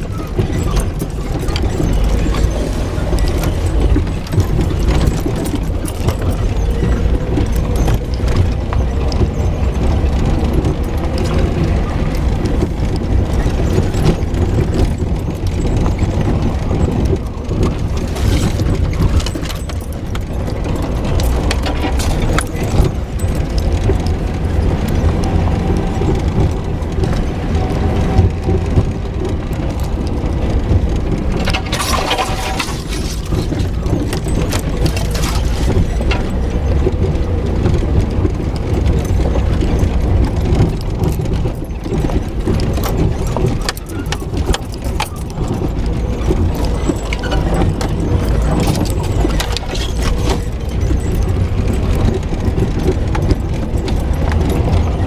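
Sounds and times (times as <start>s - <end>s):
car engine rumble: 0.0s - 55.0s
knocks and rattles: 0.0s - 55.0s
tyres crunching over gravel: 0.0s - 55.0s.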